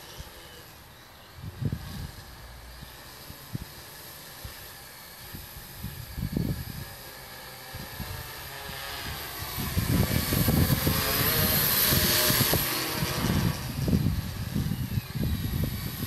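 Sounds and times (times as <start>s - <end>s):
quadcopter propellers buzzing: 0.0s - 16.0s.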